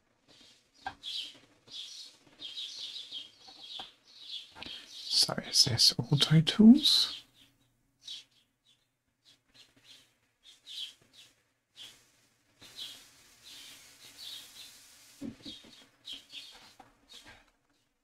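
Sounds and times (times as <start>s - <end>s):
faint bird chirps: 0.4s - 17.4s.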